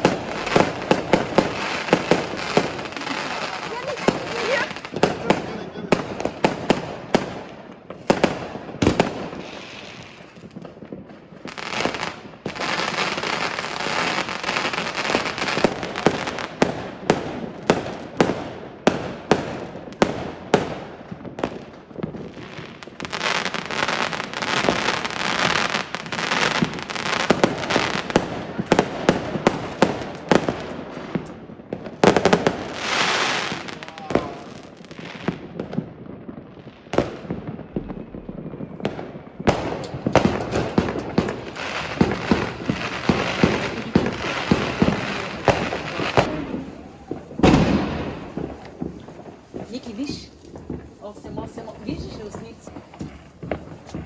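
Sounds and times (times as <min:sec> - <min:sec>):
fireworks bangs and pops: 0:00.0 - 0:54.0
fireworks crackling: 0:00.0 - 0:54.0.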